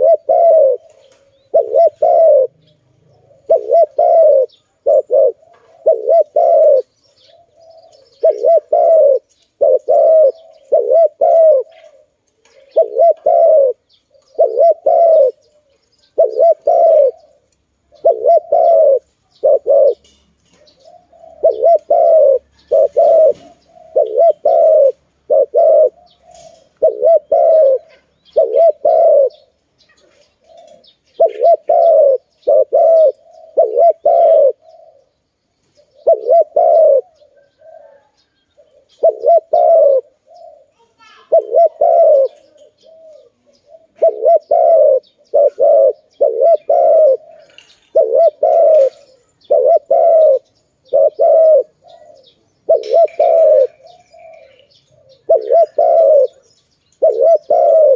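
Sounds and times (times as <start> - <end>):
dove cooing: 0.0 - 57.9
small birds chirping: 0.0 - 57.9.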